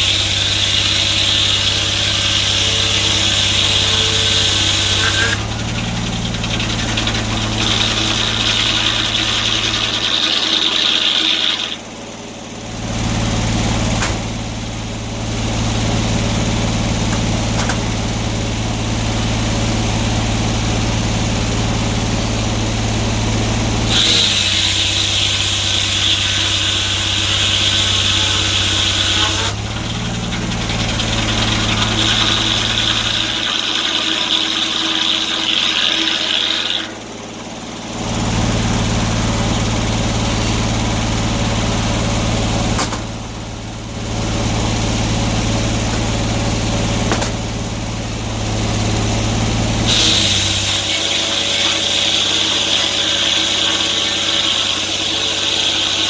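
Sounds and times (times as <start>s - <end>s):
high-pitched saw blade whine: 0.0s - 20.8s, 21.4s - 56.0s
sawmill engine running: 0.0s - 56.0s.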